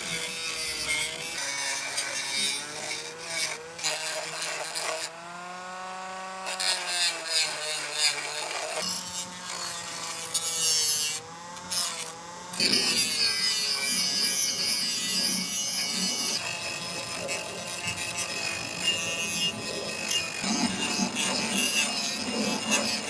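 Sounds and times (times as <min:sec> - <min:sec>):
metal grinding on abrasive disc: 0:00.0 - 0:05.1, 0:06.5 - 0:23.0
rotary tool motor whine: 0:00.0 - 0:23.0.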